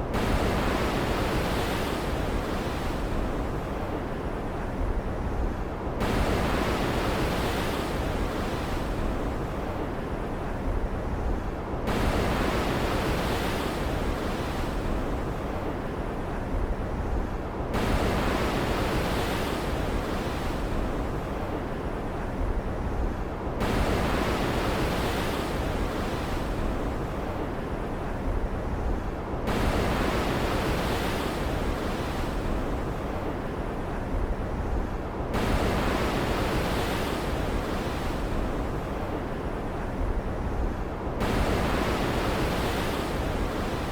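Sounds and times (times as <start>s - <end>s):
low rumble and hiss of ocean: 0.0s - 43.9s
waves surging and breaking: 0.0s - 43.9s.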